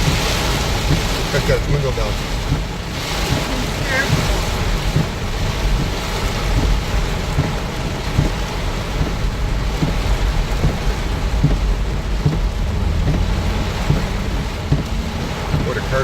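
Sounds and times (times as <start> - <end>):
heavy rain drumming on car roof: 0.0 - 16.0
low rumble: 0.0 - 16.0.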